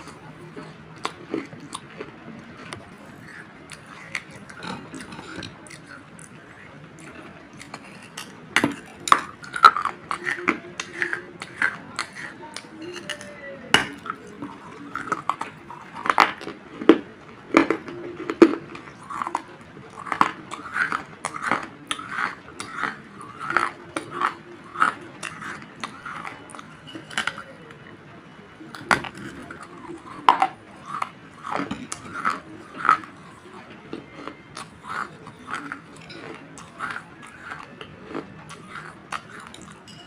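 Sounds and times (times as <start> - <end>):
gritty chewing crunches: 0.0 - 27.5, 28.6 - 39.9.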